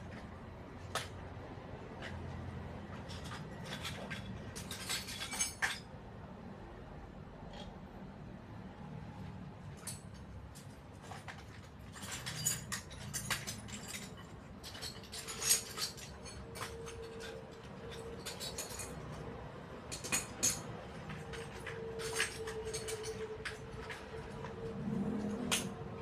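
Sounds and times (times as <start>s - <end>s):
tools clicking and clinking: 0.0s - 6.0s, 9.6s - 26.0s.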